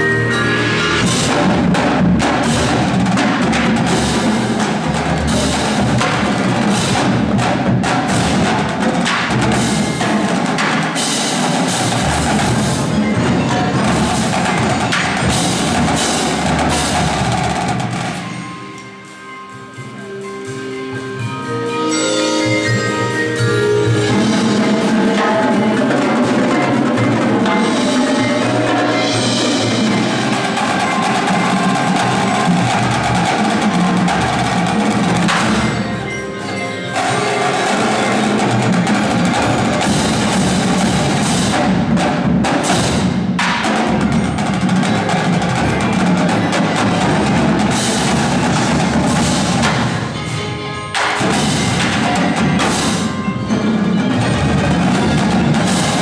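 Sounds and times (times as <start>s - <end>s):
drums playing: 0.0s - 56.0s
marimbas playing: 0.0s - 56.0s.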